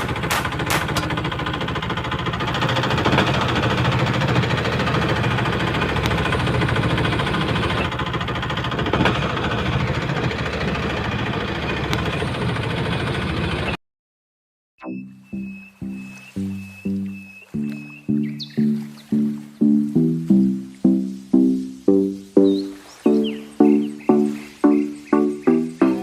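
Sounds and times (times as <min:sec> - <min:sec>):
small boat engine chugging: 0:00.0 - 0:13.8, 0:14.8 - 0:26.0.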